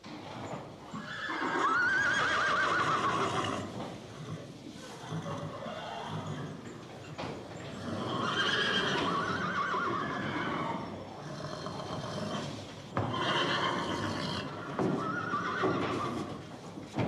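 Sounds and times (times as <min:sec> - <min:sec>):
horse whinnying: 0:01.0 - 0:06.6, 0:07.8 - 0:16.4.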